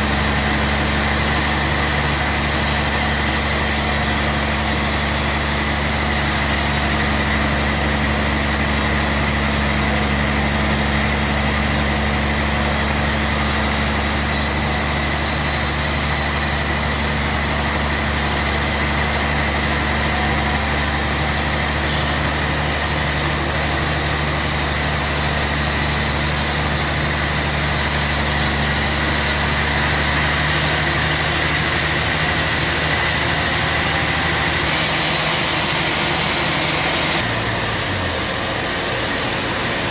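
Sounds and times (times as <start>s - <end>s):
high even whine: 0.0s - 39.9s
sawmill engine drone: 0.0s - 39.9s.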